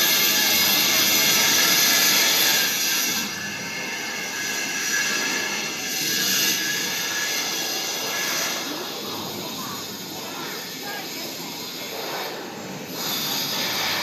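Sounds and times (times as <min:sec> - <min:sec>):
high welding sizzle: 0:00.0 - 0:14.0
welding machine hiss and hum: 0:00.0 - 0:14.0.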